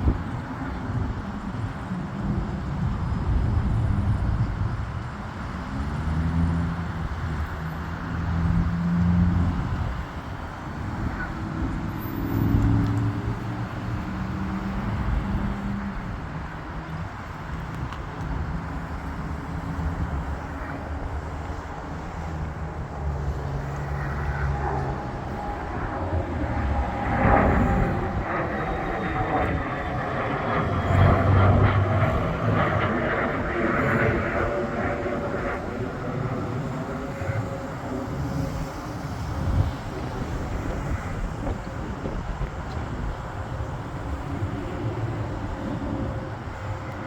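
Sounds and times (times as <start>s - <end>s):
airplane engines running: 0.0s - 47.0s.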